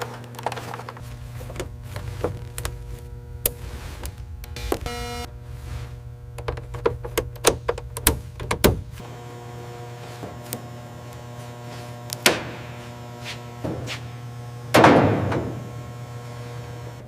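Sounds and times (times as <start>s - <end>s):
low hum: 0.0s - 14.7s.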